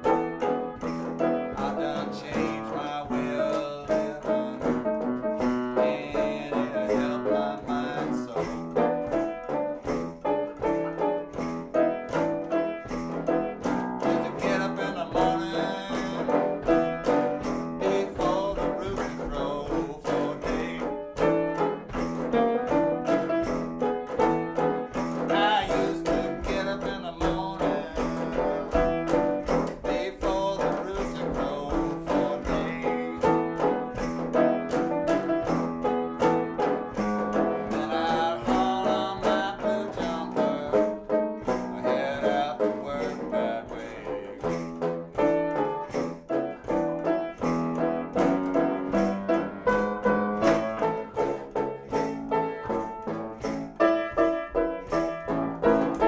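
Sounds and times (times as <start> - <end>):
banjo plucking: 0.0 - 56.0
piano chords: 0.0 - 56.0.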